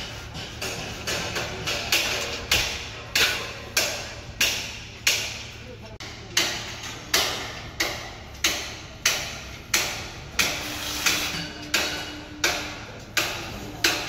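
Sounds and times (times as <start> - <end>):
hammer blows on steel scaffolding: 0.0 - 14.0.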